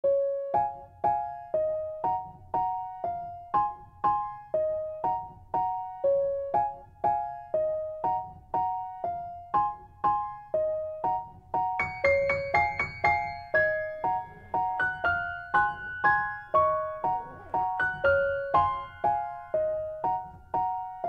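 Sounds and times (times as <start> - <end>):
soft piano melody: 0.0 - 21.0.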